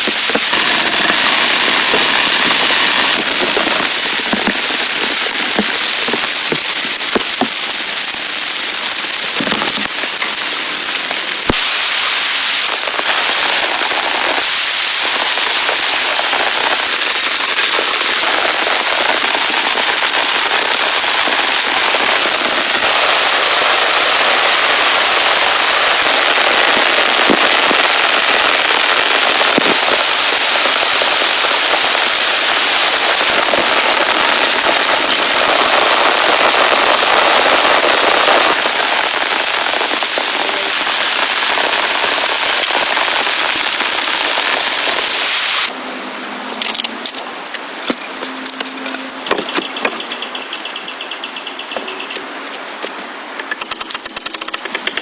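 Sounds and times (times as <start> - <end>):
raindrops ticking on surfaces: 0.0 - 45.7
heavy rain falling: 0.0 - 50.6.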